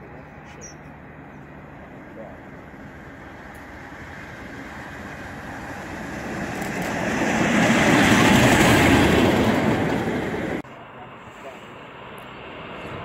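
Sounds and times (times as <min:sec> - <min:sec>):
diesel locomotive passing: 0:00.0 - 0:13.0.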